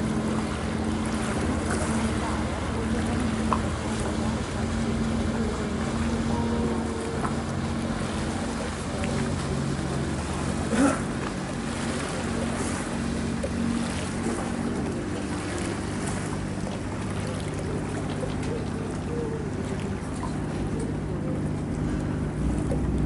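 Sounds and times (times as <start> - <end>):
boat engine running: 0.0 - 23.0
water wash: 0.0 - 23.0.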